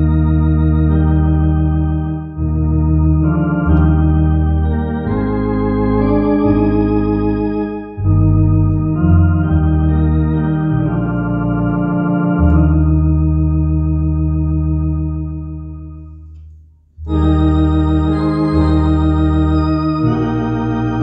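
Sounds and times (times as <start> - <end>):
electronic organ playing a hymn: 0.0 - 16.4, 17.0 - 21.0.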